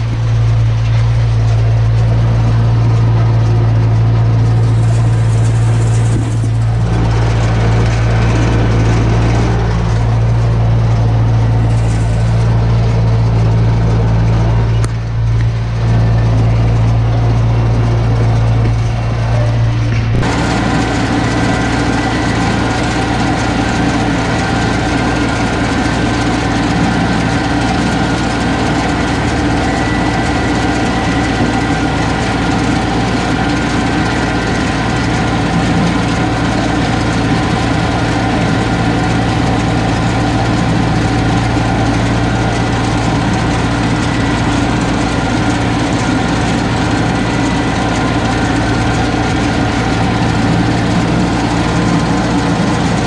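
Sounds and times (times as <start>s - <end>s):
tractor engine running under load: 0.0s - 53.0s.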